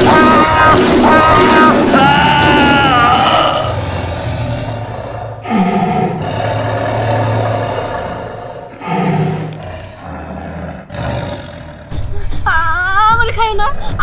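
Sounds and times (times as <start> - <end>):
tiger roaring: 0.0 - 11.9.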